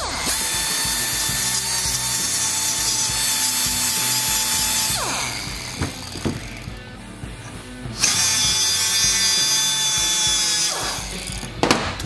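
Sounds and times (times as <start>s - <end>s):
die grinder grinding metal: 0.0s - 12.0s.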